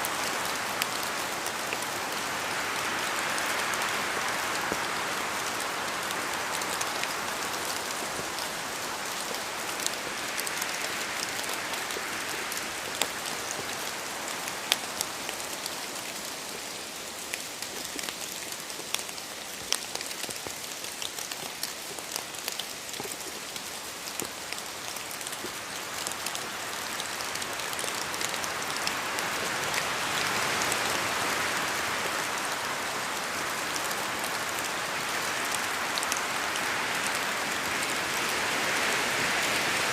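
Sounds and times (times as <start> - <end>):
rain drops ticking on hard surface: 0.0 - 39.9.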